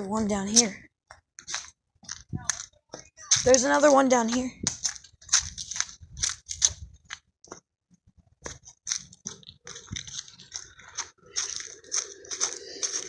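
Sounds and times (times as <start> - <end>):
footsteps crunching on dry ground: 1.4 - 7.6, 8.4 - 13.0.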